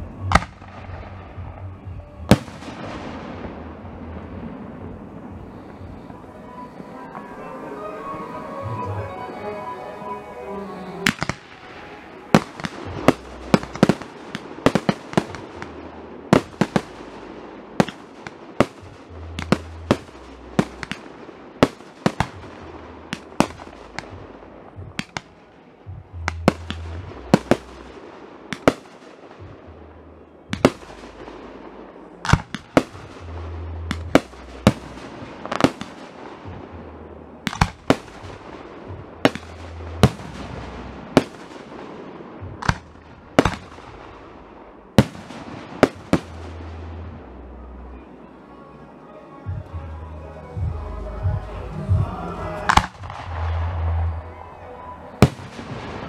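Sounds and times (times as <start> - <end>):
fireworks bursting with sharp bangs: 0.0 - 9.2, 11.0 - 50.0, 50.6 - 56.0.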